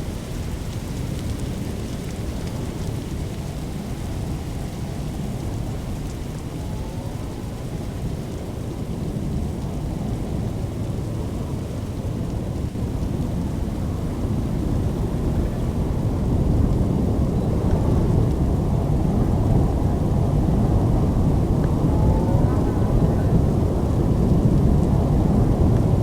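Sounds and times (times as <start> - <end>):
rain: 0.0 - 26.0
thunder rumble: 0.0 - 26.0.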